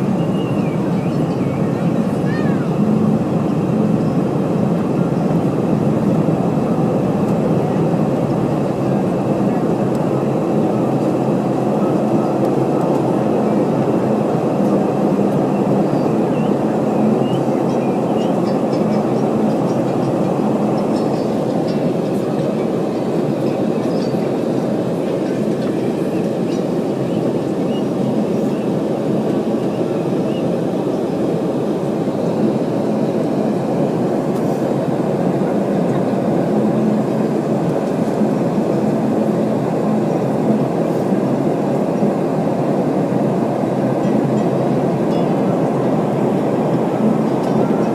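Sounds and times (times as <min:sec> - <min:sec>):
jet engine rumble: 0:00.0 - 0:47.9.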